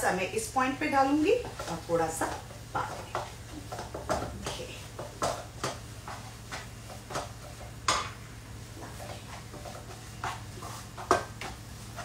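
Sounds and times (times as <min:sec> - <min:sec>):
wooden spatula scraping a pan: 0:00.6 - 0:07.8, 0:08.7 - 0:12.0.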